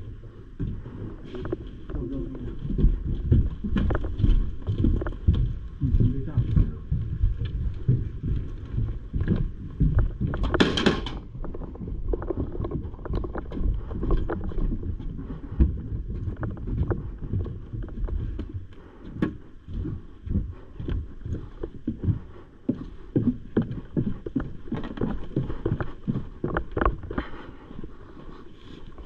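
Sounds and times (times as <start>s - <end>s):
footsteps on wooden floor and stairs: 0.0s - 29.0s
low rumbling microphone noise: 0.0s - 29.0s.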